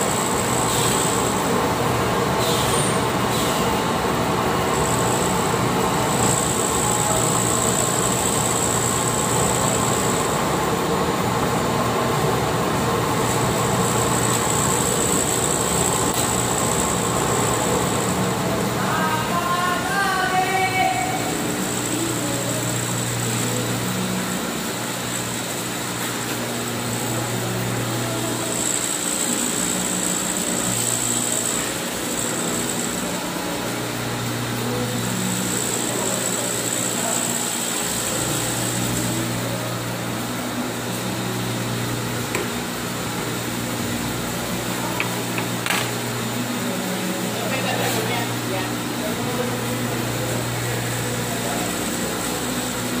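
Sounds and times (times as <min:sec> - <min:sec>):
high whine: 0:00.0 - 0:53.0
machinery humming and hissing: 0:00.0 - 0:53.0.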